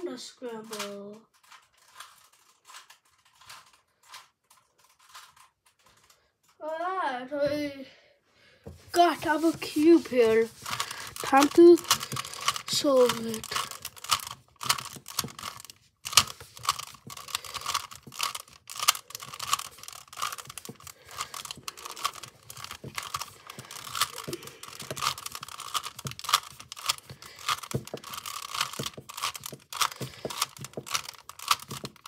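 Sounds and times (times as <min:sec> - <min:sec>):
puzzle cube clicking: 0:00.6 - 0:04.2, 0:09.0 - 0:32.0.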